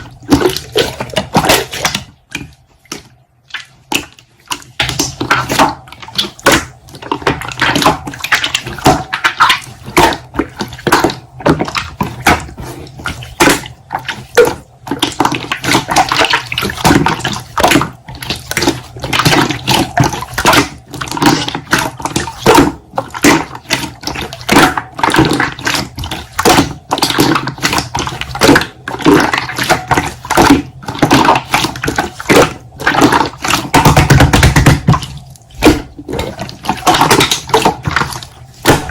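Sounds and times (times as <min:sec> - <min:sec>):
slime squelching by hand: 0:00.0 - 0:38.9.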